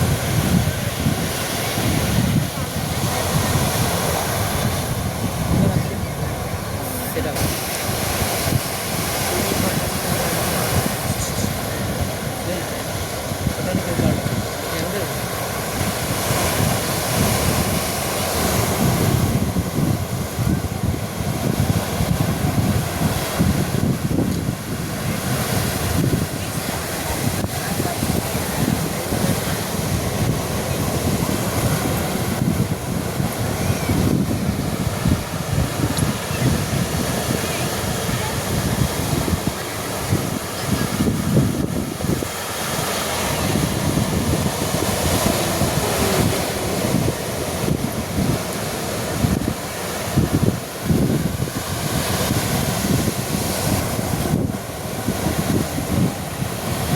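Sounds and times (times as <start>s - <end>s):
surf washing onto beach: 0.0s - 56.9s
wind buffeting microphone: 0.0s - 56.9s.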